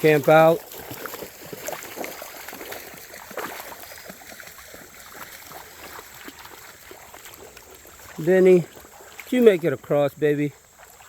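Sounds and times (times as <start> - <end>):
creek water running over rocks: 0.0 - 11.0
small ticks and splashes: 0.0 - 11.0.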